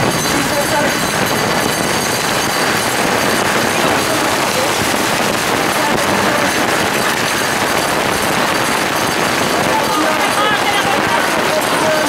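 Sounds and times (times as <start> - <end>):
heavy rain on wet road: 0.0 - 12.0.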